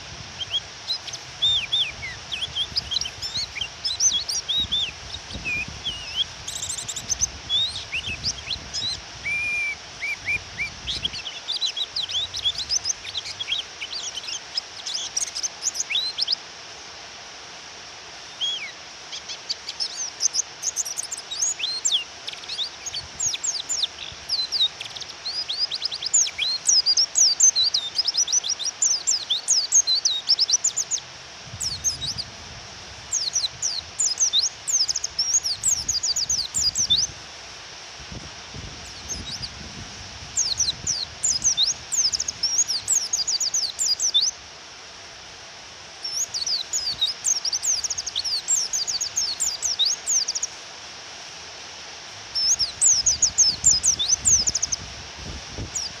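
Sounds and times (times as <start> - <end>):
bird twittering chirps: 0.0 - 16.4, 18.3 - 32.3, 33.1 - 37.1, 38.8 - 39.6, 40.3 - 44.4, 46.0 - 50.6, 52.3 - 54.8
rain-like hiss: 0.0 - 56.0.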